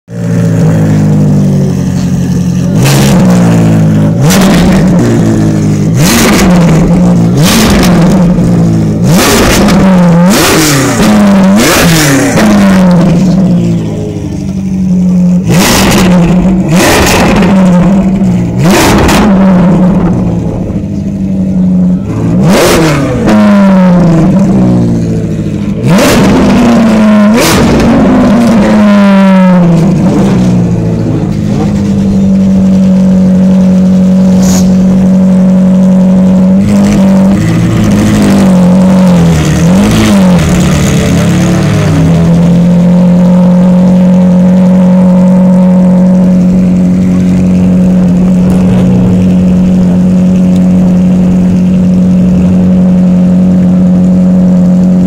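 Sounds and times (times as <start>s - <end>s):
car engine idling: 0.1s - 55.0s
car engine revving: 0.1s - 55.0s.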